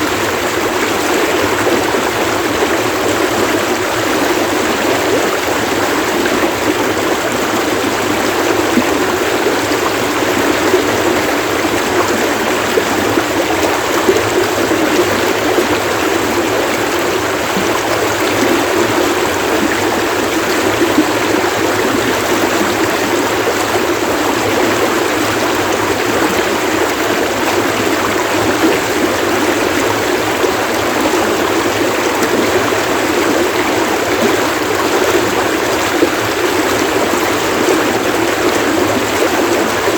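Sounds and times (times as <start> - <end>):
stream water splashing: 0.0 - 39.9.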